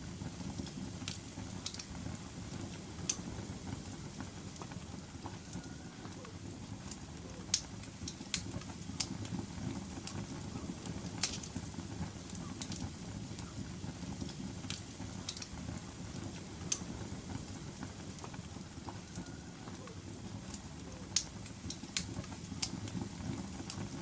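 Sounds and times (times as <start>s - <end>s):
fire crackles and pops: 0.0s - 24.0s
low rumble of flames: 0.0s - 24.0s.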